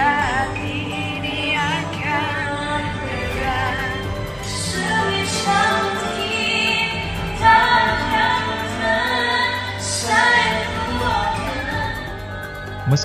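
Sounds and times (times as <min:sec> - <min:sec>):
woman singing karaoke: 0:00.0 - 0:12.8
karaoke backing track: 0:00.0 - 0:13.0.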